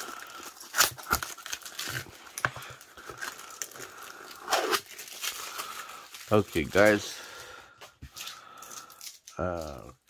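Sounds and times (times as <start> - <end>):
plastic tape crinkling: 0.0 - 7.4, 8.0 - 10.0.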